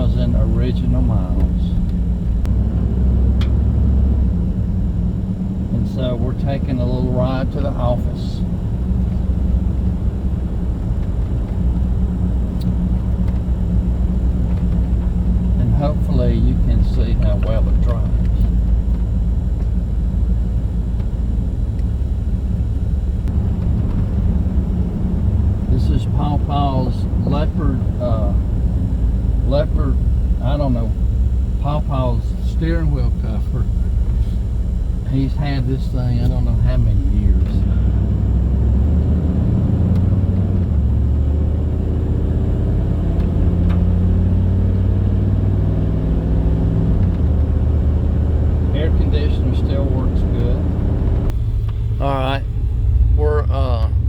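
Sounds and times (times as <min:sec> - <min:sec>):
engine and road rumble in cab: 0:00.0 - 0:54.0.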